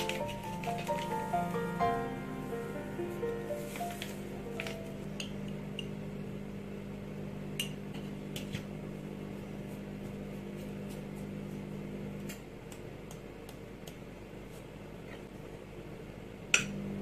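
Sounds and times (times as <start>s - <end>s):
kitchen appliance hum: 0.0s - 17.0s.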